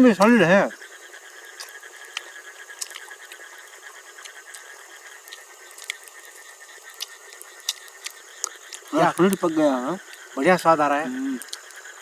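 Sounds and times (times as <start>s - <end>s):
frog chorus: 0.0s - 12.0s
insects calling: 0.0s - 12.0s.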